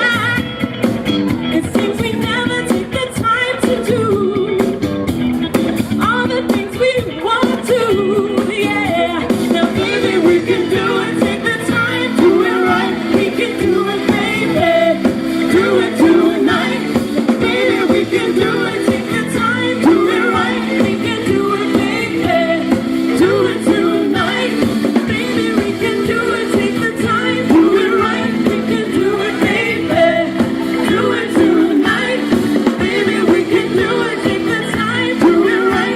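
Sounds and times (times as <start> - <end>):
live rock band playing: 0.0 - 35.9
lead vocal singing: 6.3 - 35.9.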